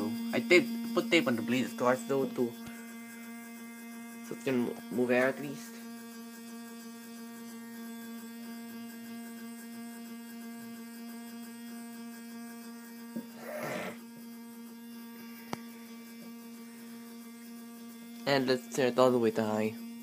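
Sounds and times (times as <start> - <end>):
small electric fan motor humming: 0.0 - 20.0.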